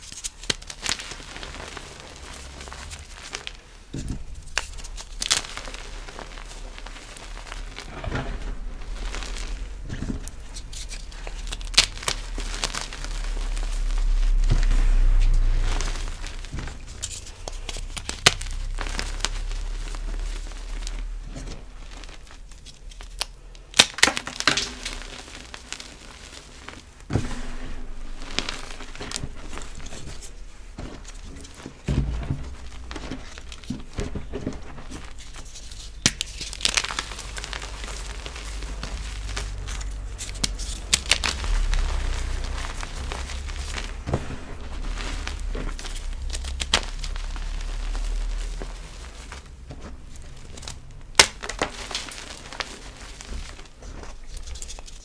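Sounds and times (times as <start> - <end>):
chalk crunching and crumbling: 0.0 - 55.0.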